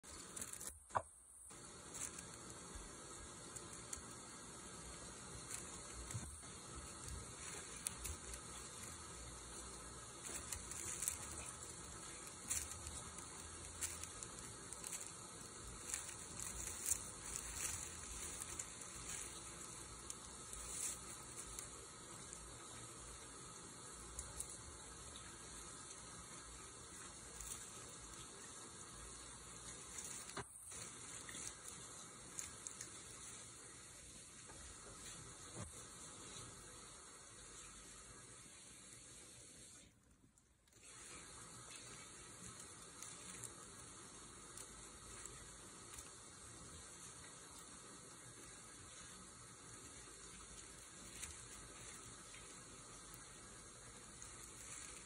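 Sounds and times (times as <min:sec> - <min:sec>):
dry leaves crackling and rustling: 0:00.0 - 0:00.7, 0:01.5 - 0:37.7, 0:40.7 - 0:55.0
faint steady hiss: 0:00.0 - 0:55.0.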